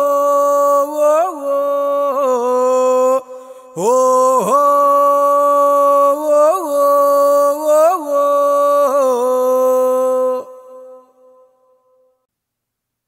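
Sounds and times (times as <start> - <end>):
man chanting: 0.0 - 11.5.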